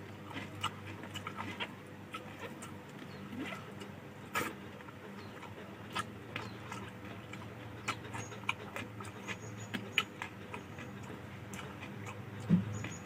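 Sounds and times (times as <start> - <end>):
low steady hum: 0.0 - 13.0
person chewing wetly: 0.0 - 13.0.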